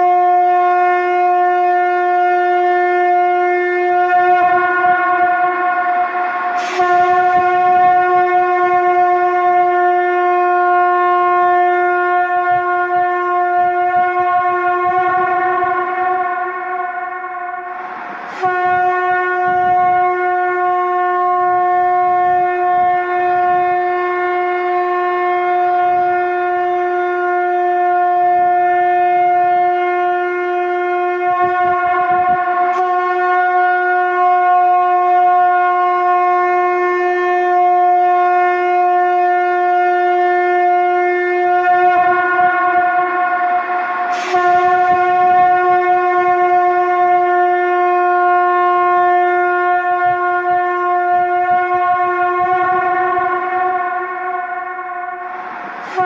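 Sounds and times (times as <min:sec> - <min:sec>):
conch shell horn note: 0:00.0 - 0:56.0.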